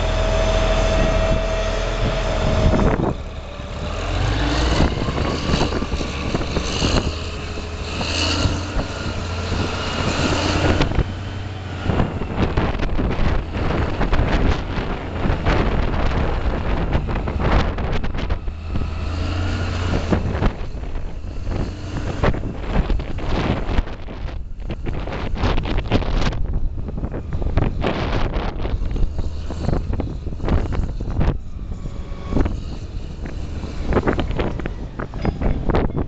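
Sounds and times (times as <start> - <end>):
diesel engine rumbling under load: 0.0 - 36.0
engine whine: 0.0 - 36.0
wind buffeting microphone: 0.0 - 36.0.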